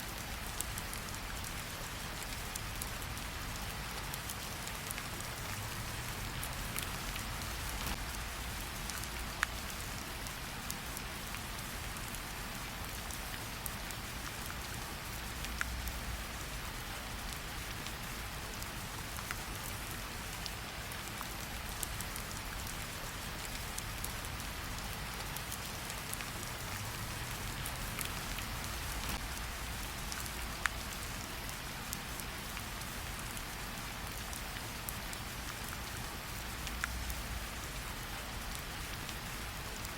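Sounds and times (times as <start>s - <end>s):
rain pattering: 0.0s - 39.9s
campfire crackles: 0.1s - 39.9s.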